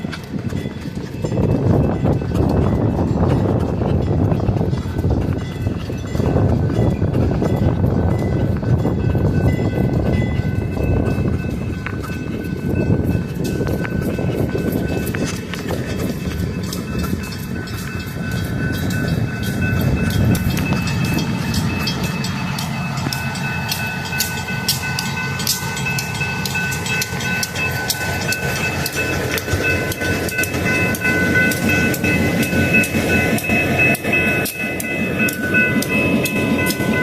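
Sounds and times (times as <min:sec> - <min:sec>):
crossing warning bells ringing: 0:00.0 - 0:37.0
freight train rumbling: 0:00.0 - 0:37.0
wheels clicking over rails: 0:00.0 - 0:37.0.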